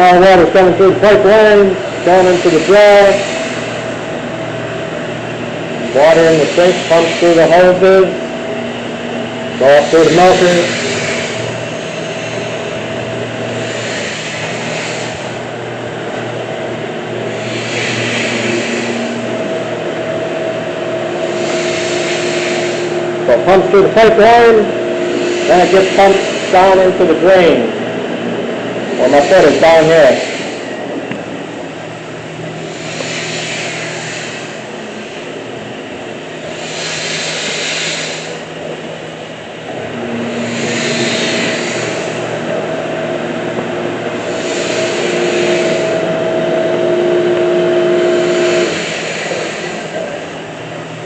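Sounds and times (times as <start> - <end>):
wash system mechanical hum: 0.0 - 51.0
water and air rushing through pipes: 0.0 - 51.0.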